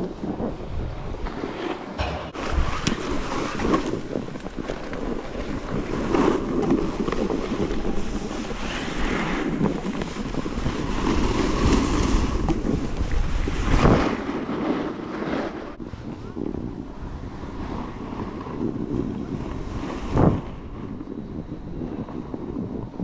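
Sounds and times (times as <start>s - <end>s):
wind rushing over microphone: 0.0s - 23.0s
snowboard scraping on snow: 0.3s - 15.8s, 17.2s - 20.8s.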